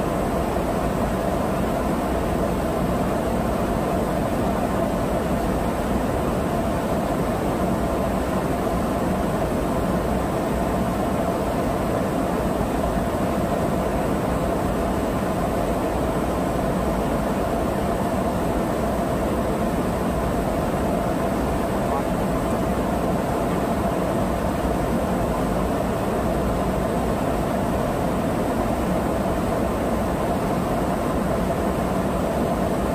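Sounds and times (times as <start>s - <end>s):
aircraft cabin airflow and engine noise: 0.0s - 32.9s.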